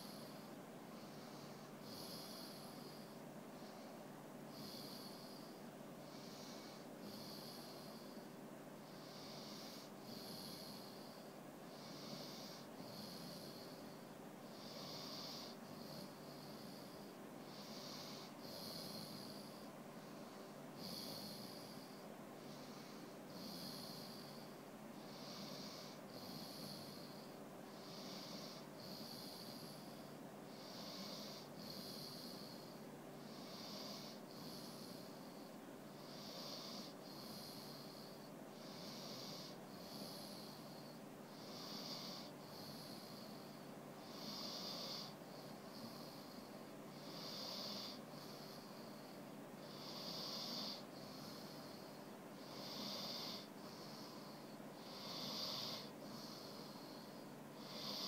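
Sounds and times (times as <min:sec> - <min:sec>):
dog snoring: 0:00.0 - 0:58.0.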